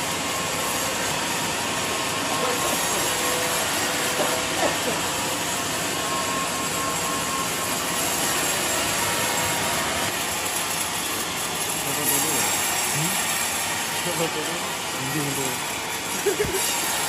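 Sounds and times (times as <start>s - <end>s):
band sawmill sawing log: 0.0s - 17.0s.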